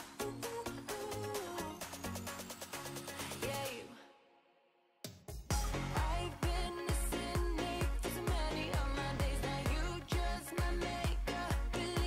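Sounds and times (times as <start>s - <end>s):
music with heavy bass beat: 0.0s - 3.8s, 5.3s - 12.0s
background music: 0.0s - 4.4s, 5.0s - 12.0s.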